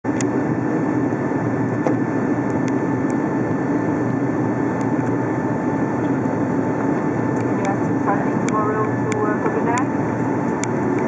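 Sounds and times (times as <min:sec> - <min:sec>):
aircraft cabin engine roar: 0:00.0 - 0:11.0
faint steady whine: 0:00.1 - 0:11.0.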